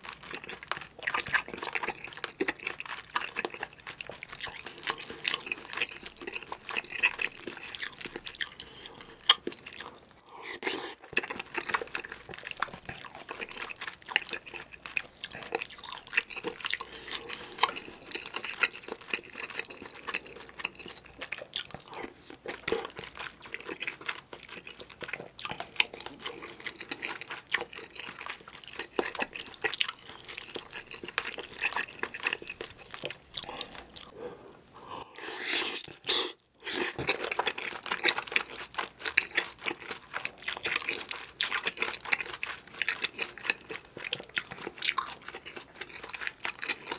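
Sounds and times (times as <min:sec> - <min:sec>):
chewing with wet mouth clicks: 0:00.0 - 0:46.9.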